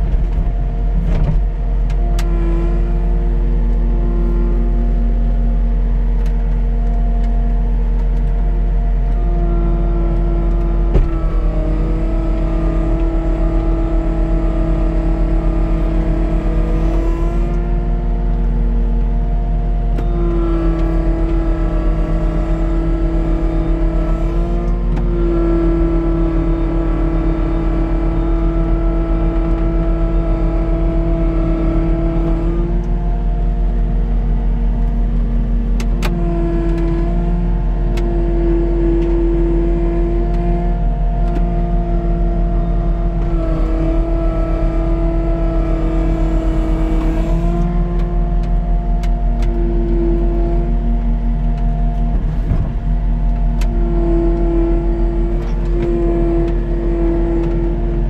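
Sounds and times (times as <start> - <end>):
diesel engine under load: 0.0 - 58.0
whine: 0.0 - 58.0.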